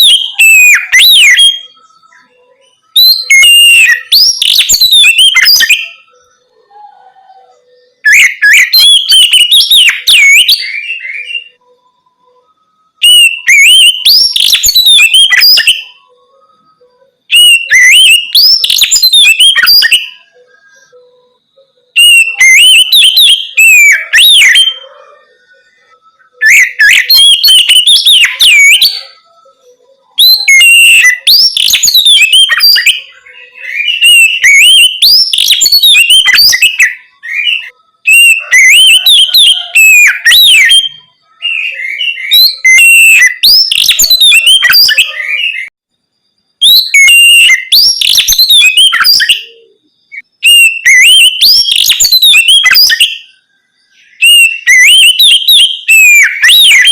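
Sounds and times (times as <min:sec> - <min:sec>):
songbird whistling song: 0:00.0 - 0:56.9.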